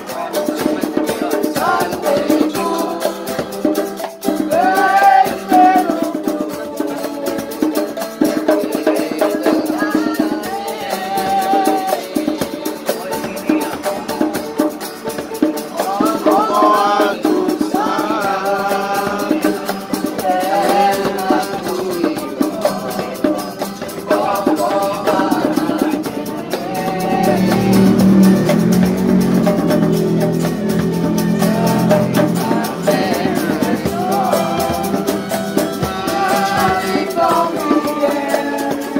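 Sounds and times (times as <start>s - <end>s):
person singing: 0.0s - 14.7s, 15.7s - 38.9s
strummed acoustic guitar: 0.0s - 38.9s.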